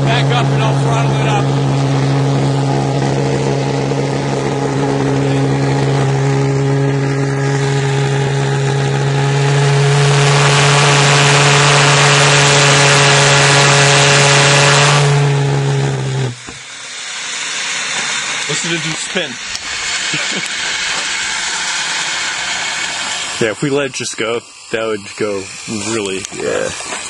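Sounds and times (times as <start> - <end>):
pulse jet engine buzzing drone: 0.0 - 27.0
rushing hiss: 4.6 - 27.0.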